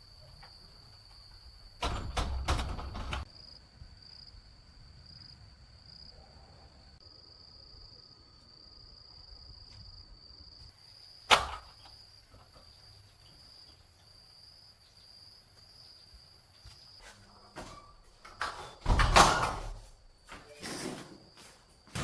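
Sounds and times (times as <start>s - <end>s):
insects trilling: 0.0s - 19.4s.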